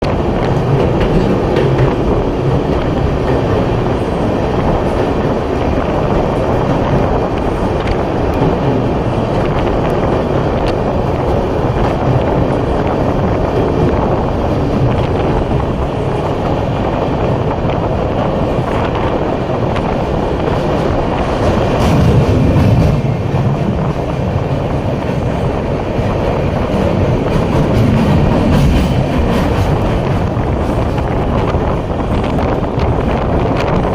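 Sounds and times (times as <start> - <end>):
train rumbling along track: 0.0 - 33.9.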